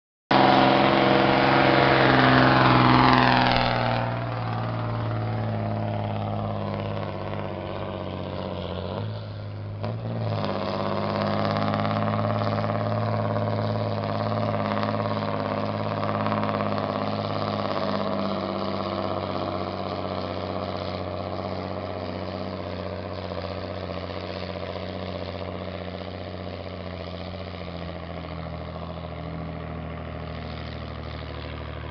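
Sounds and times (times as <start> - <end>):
truck diesel engine revving: 0.3 - 31.9.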